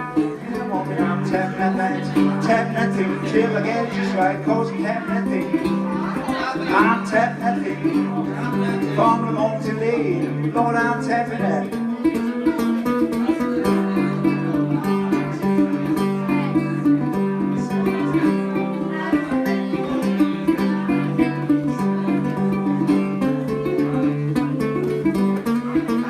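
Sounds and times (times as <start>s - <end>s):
acoustic blues guitar: 0.0s - 26.0s.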